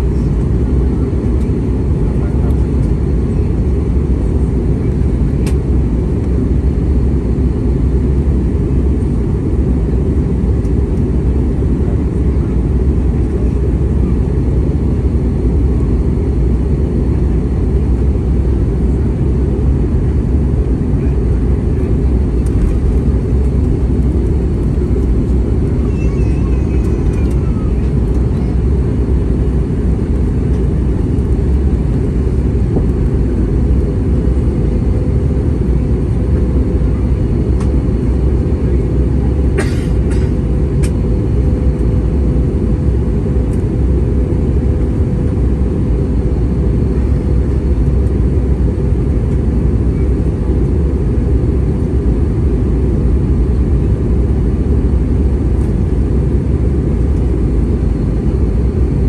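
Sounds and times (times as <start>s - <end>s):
airplane cabin engine noise: 0.0s - 59.0s.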